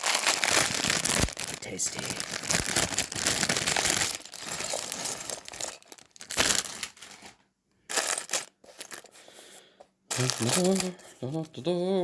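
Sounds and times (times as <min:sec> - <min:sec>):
plastic bag crinkling: 0:00.0 - 0:09.1, 0:10.1 - 0:11.2.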